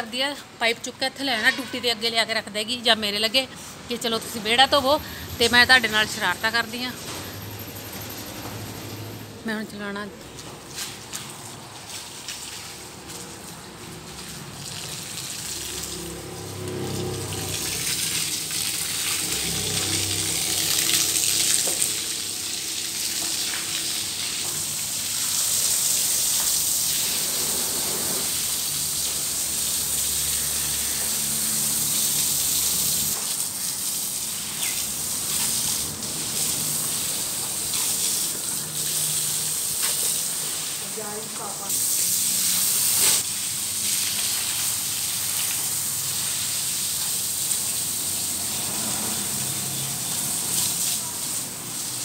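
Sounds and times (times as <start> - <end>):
hose spraying on paving stones: 10.2 - 52.0.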